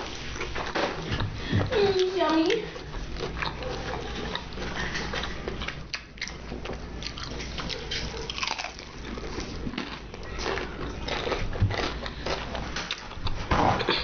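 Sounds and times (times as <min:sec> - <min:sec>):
person chewing food: 0:02.0 - 0:14.0.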